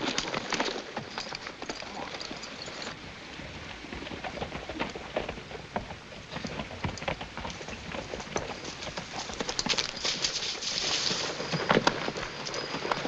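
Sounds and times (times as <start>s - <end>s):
horse hooves clopping on rocky trail: 0.0s - 13.0s.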